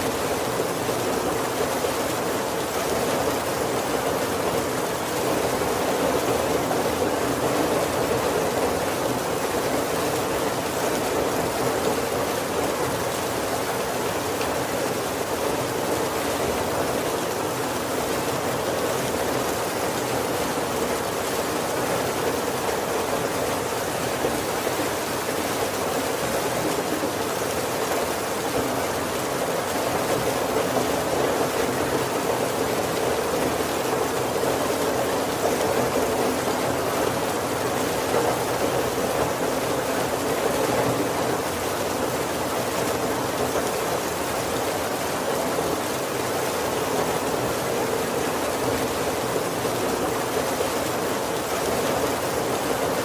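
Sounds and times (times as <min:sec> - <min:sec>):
heavy rain on roof and windows: 0:00.0 - 0:53.0.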